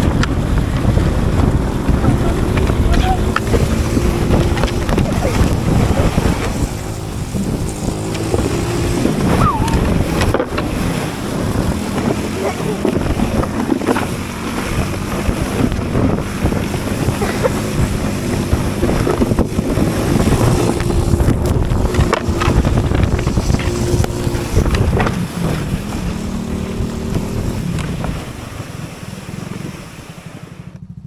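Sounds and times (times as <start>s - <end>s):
wind buffeting microphone: 0.0s - 30.8s
small petrol engine running: 0.0s - 31.0s.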